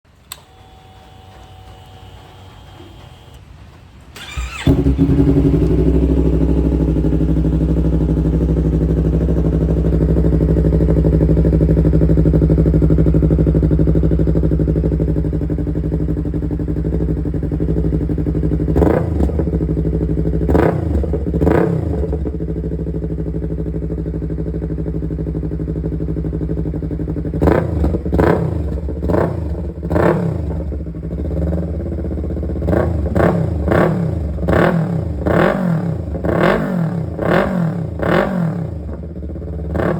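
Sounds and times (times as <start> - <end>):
motorcycle engine idling and revving: 4.2 - 39.9.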